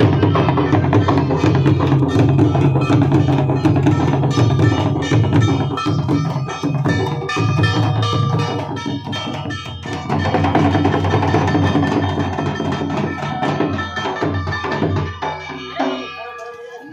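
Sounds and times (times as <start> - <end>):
barrel drums beaten fast: 0.0 - 16.7.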